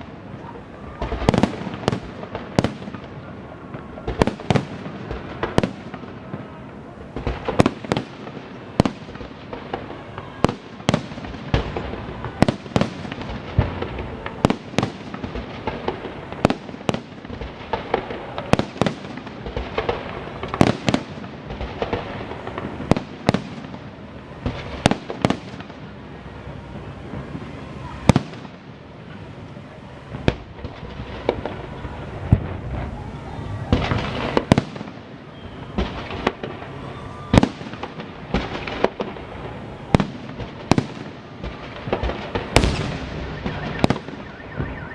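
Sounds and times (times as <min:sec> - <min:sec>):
fireworks bursting with bangs: 0:00.0 - 0:44.9
fireworks crackle: 0:00.0 - 0:44.9.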